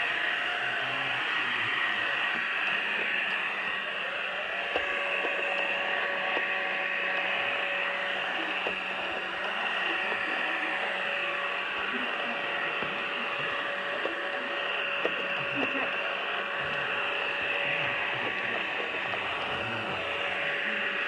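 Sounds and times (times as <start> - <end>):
robot vacuum whirring: 0.0 - 21.0.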